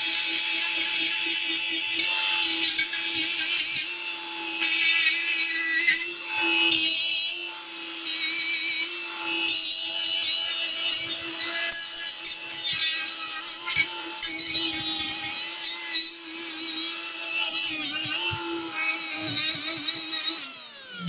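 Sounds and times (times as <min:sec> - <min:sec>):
electric buffer motor whine: 0:00.0 - 0:21.0.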